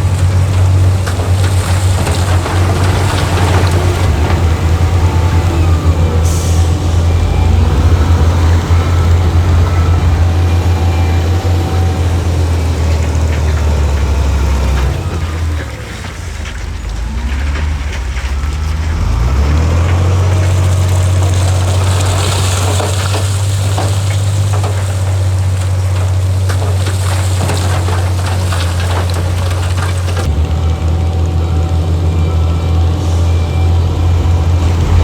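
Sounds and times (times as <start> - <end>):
clattering and crackling: 0.0 - 7.0, 9.2 - 30.4
heavy diesel engine running: 0.0 - 35.0.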